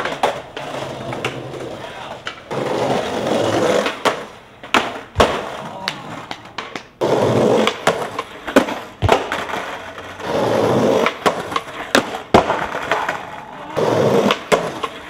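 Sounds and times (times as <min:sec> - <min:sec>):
skateboard clacking on ground: 0:00.0 - 0:15.0
skateboard grinding on ledge: 0:00.0 - 0:15.0
skateboard wheels rolling: 0:00.0 - 0:15.0.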